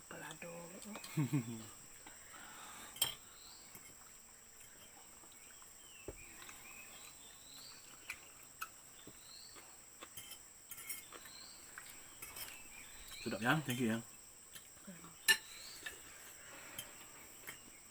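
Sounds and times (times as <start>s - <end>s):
faint chirps: 0.0s - 17.9s
high-pitched insect chorus: 0.0s - 17.9s.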